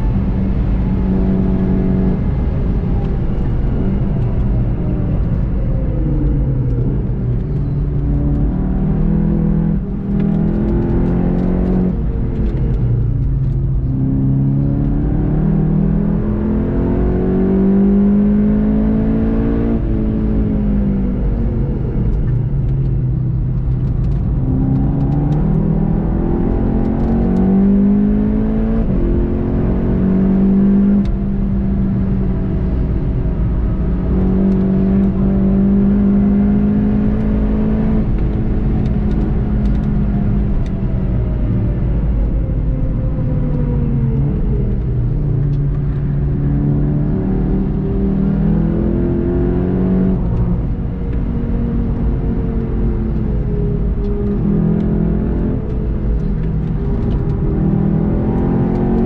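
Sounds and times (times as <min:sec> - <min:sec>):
car engine accelerating: 0:00.0 - 0:59.0
tyre and road noise: 0:00.0 - 0:59.0.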